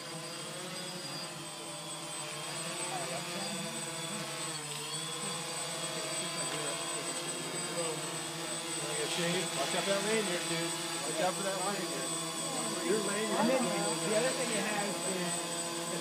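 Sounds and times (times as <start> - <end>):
drone propellers whirring: 0.0 - 16.0.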